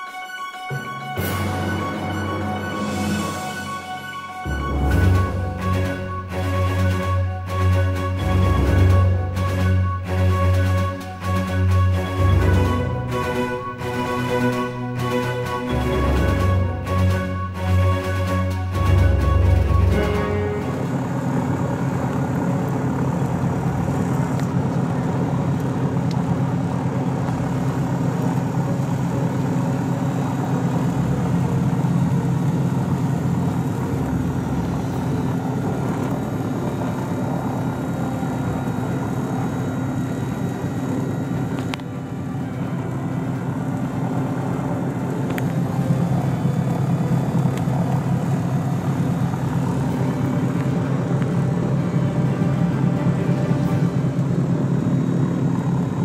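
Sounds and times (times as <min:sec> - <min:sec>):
aircraft piston engines running: 0:00.7 - 0:56.0.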